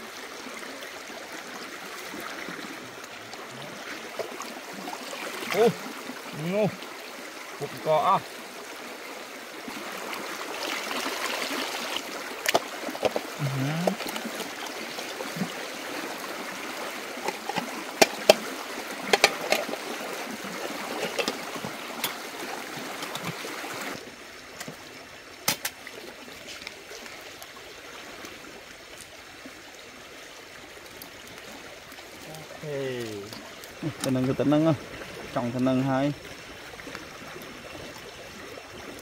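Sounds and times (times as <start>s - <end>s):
flowing water: 0.0s - 39.0s.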